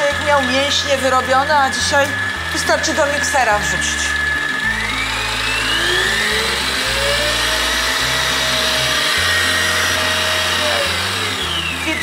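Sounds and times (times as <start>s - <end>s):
background music low notes: 0.0s - 12.0s
electric mixer whine: 0.0s - 12.0s.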